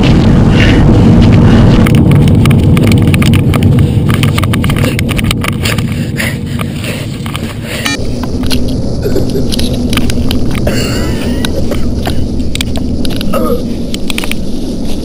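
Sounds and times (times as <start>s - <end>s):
wind buffeting microphone: 0.0s - 15.0s
camera handling rumble: 1.2s - 15.0s.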